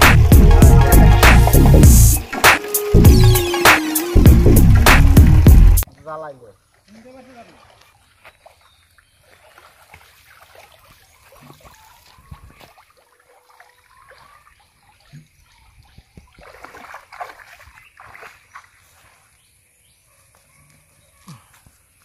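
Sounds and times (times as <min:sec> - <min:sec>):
water splashing and trickling: 0:00.0 - 0:19.8.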